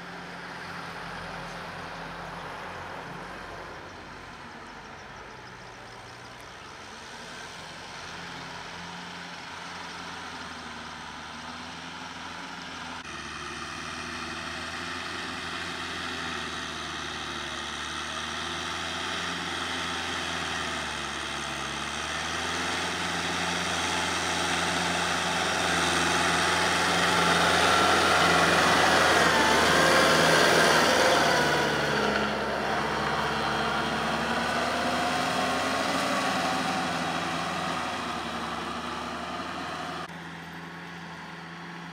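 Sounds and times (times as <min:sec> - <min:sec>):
tractor diesel engine running: 0:00.0 - 0:41.9
tiller churning soil: 0:07.6 - 0:41.9.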